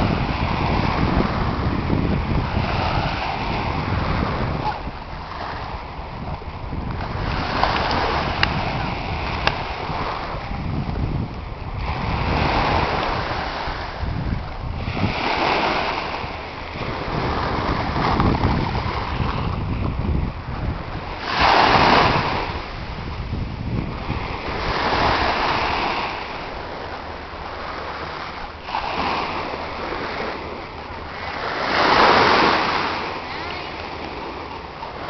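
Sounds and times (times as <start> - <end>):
small waves washing onto beach: 0.0 - 35.0
wind rumbling on microphone: 0.0 - 35.0.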